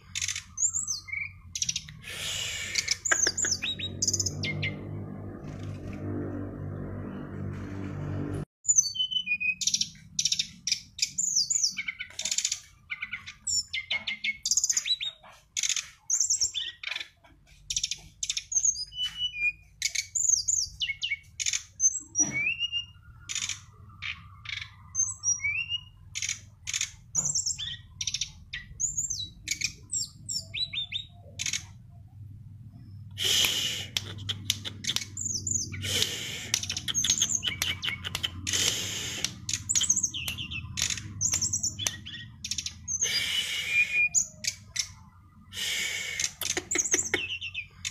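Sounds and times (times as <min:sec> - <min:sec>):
songbird singing: 0:00.0 - 0:05.7, 0:08.6 - 0:47.9.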